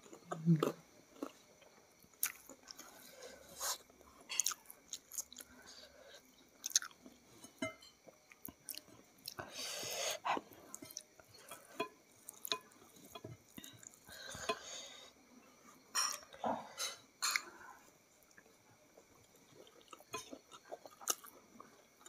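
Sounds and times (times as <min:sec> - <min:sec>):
person chewing food: 0:00.0 - 0:15.0, 0:18.2 - 0:22.0.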